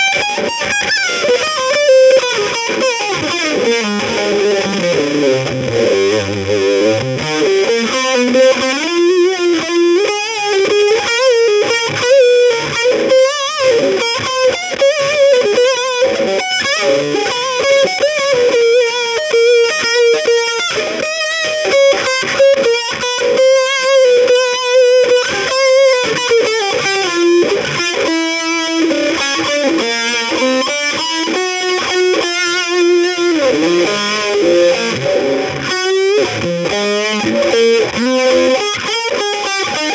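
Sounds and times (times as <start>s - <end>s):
distorted electric guitar melody: 0.0s - 39.9s.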